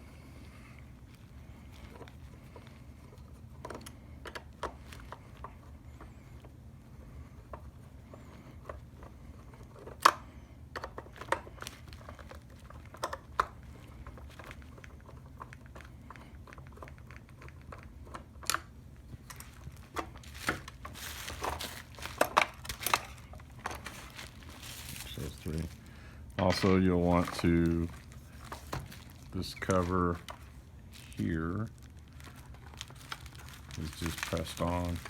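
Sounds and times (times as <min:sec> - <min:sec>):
crackling rustling handling noise: 0:00.0 - 0:35.0.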